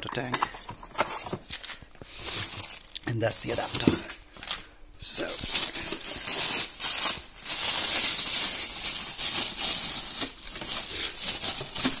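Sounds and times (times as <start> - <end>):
plastic bag crinkling: 1.0 - 12.0.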